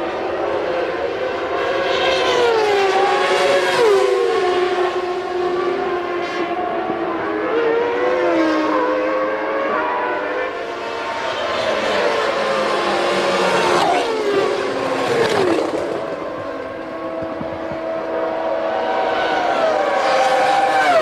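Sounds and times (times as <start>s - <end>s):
racing car engines passing: 0.0s - 21.0s.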